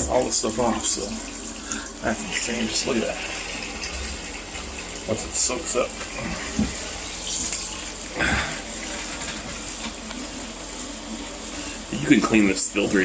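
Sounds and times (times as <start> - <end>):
tap water splashing: 0.0 - 13.0.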